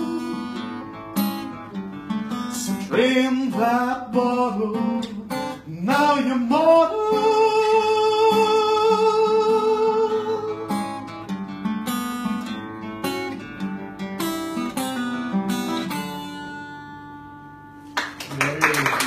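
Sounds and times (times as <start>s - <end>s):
acoustic guitar playing: 0.0s - 18.2s.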